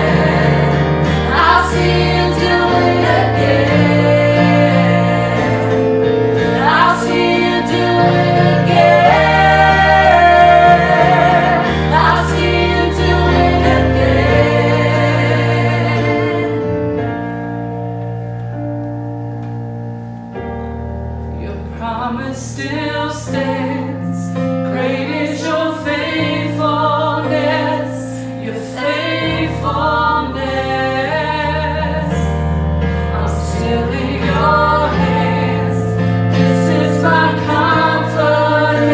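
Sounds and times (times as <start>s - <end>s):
gospel band with choir: 0.0s - 38.9s.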